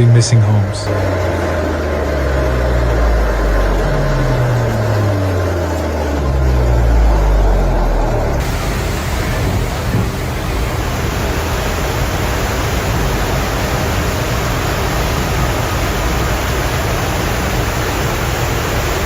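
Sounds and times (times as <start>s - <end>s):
floodwater rushing: 0.9s - 19.0s.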